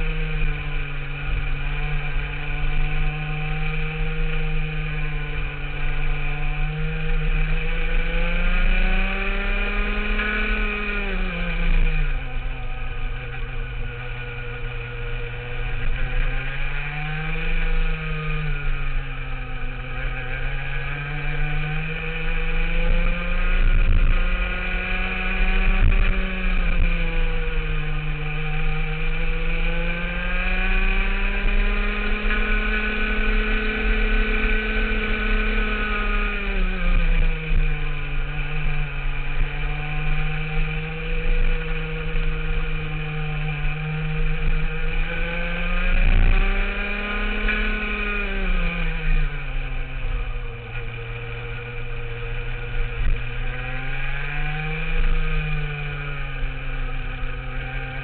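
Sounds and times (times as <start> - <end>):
two-stroke kart engine racing: 0.0 - 58.0.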